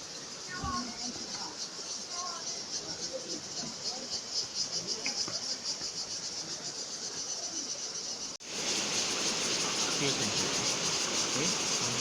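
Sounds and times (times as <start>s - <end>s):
insects chorus: 0.0s - 12.0s
steady rushing hiss: 0.0s - 12.0s.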